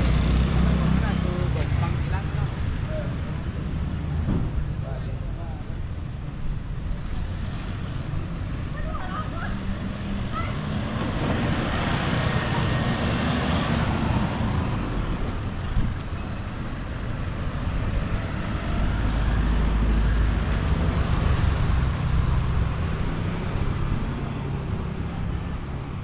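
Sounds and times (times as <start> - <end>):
car engines passing: 0.0 - 26.0
truck engine rumble: 0.0 - 26.0.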